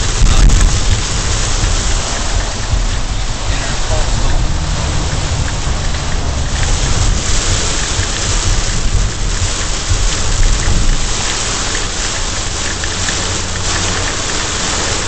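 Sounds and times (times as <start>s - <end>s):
heavy rain on car windshield: 0.0s - 15.0s
low rumble: 0.0s - 15.0s.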